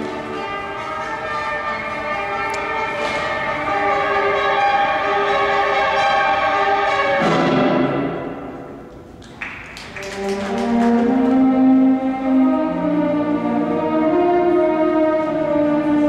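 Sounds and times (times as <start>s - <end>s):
orchestral music: 0.0s - 9.1s, 9.8s - 16.0s.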